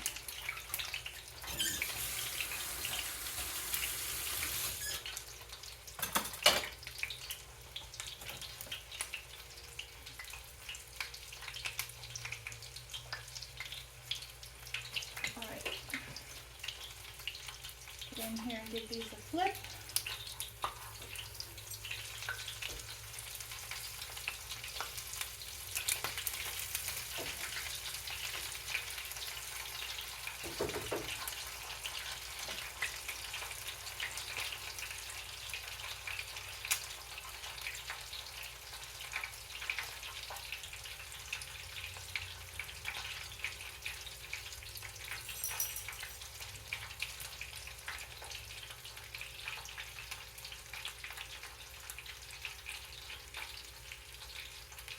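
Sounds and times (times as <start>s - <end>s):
oil crackles and pops: 0.0s - 45.4s, 46.4s - 54.9s
chicken frying in hot oil: 0.0s - 54.9s.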